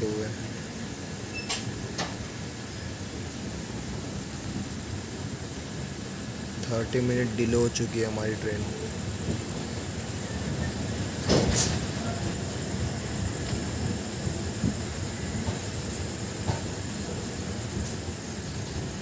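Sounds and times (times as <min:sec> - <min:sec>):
train wheels rumbling on rails: 0:03.2 - 0:19.0.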